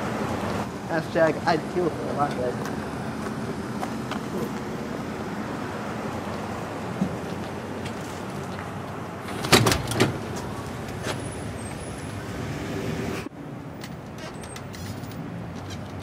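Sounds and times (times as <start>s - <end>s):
street and traffic noise: 0.0s - 16.0s.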